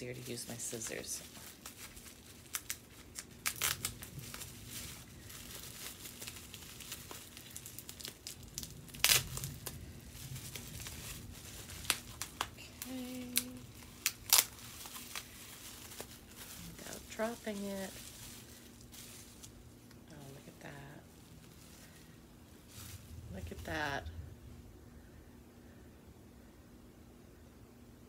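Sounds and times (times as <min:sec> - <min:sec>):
bubble wrap crinkling and crackling: 0:00.0 - 0:25.1.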